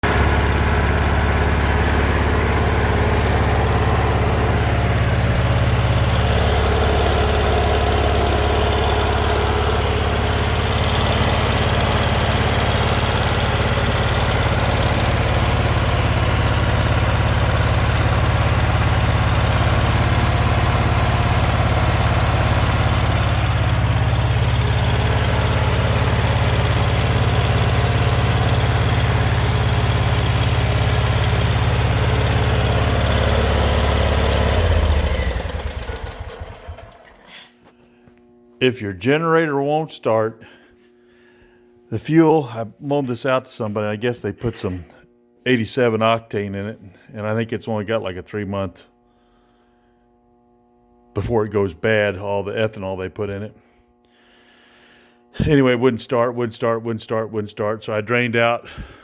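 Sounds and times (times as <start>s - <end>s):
generator engine running: 0.0s - 48.1s, 48.9s - 56.8s, 57.9s - 59.0s.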